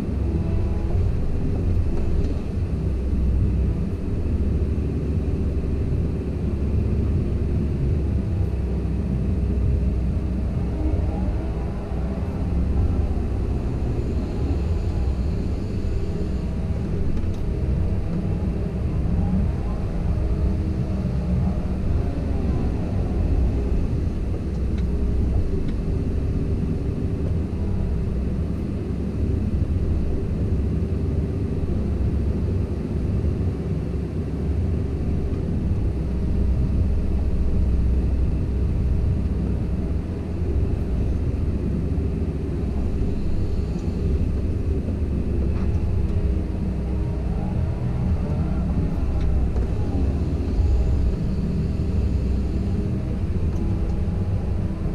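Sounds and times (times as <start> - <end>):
excavator diesel engine droning: 0.0 - 54.9.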